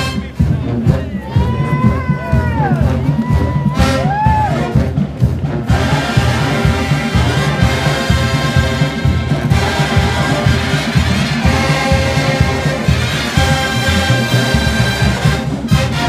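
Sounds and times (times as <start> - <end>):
brass sustained chords: 0.0 - 1.2, 3.8 - 16.0
drums steady beat: 0.0 - 16.0
marching band playing: 0.0 - 16.0.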